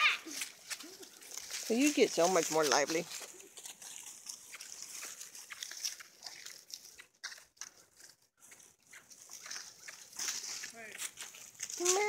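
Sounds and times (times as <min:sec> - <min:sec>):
puppies playing in dry leaves: 0:00.0 - 0:12.0.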